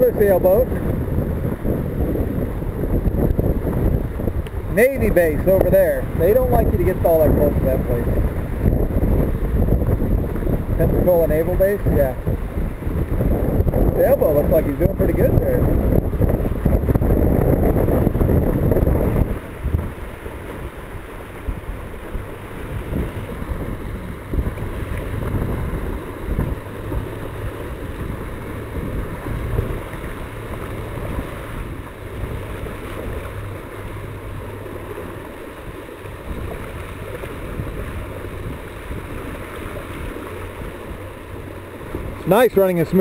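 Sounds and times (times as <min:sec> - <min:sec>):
water rushing along hull: 0:00.0 - 0:43.0
wind buffeting microphone: 0:00.0 - 0:43.0.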